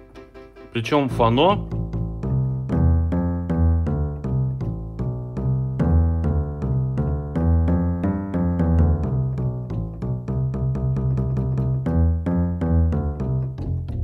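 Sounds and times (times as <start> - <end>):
keyboard piano pattern: 0.0 - 14.0
sustained bass line: 1.1 - 14.0.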